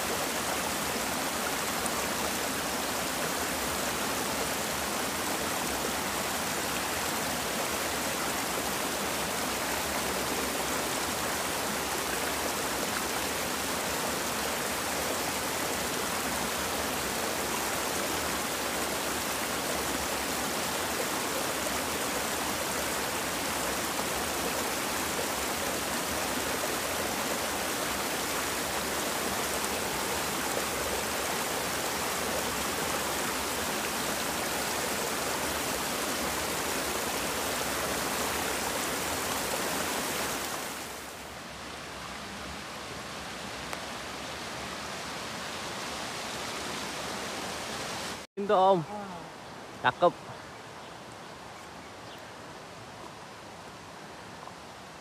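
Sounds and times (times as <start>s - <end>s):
waterfall over boulders: 0.0s - 55.0s.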